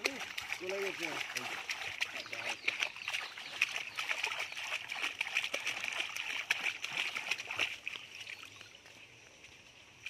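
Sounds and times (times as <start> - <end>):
water splashing in a drum: 0.0 - 8.7.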